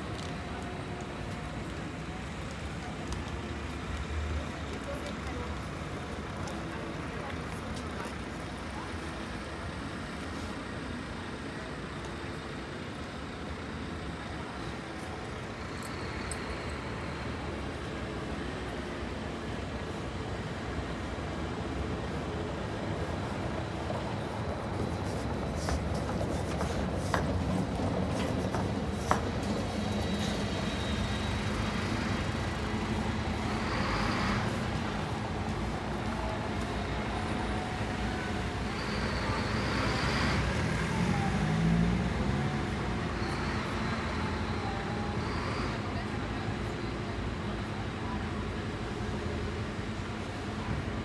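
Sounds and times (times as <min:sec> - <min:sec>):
traffic rumble: 0:00.0 - 0:51.0.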